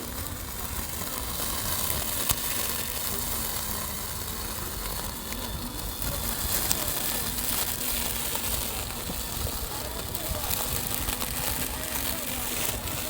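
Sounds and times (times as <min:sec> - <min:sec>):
electric lawn mower running: 0:00.0 - 0:13.0.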